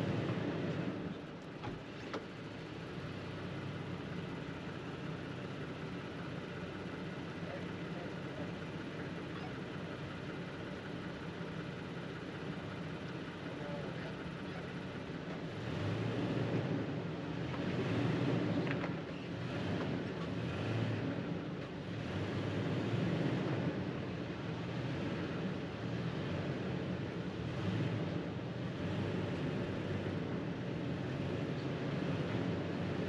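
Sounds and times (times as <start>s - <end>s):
pickup engine and tyres rumbling: 0.0s - 33.0s.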